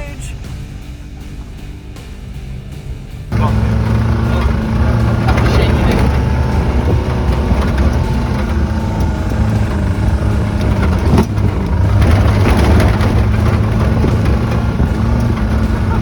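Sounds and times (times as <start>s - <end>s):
car engine running under load: 1.2s - 16.0s.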